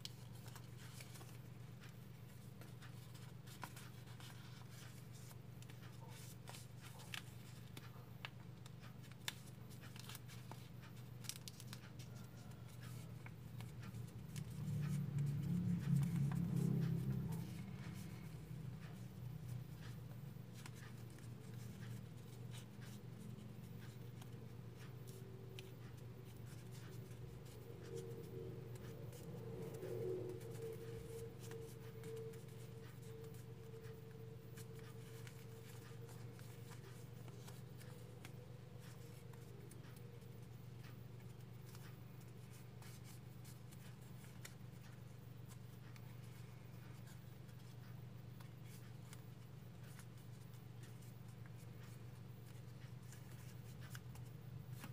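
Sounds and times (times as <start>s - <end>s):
paper rustling and creasing: 0.0s - 19.1s, 19.8s - 54.9s
steady low hum: 0.0s - 54.9s.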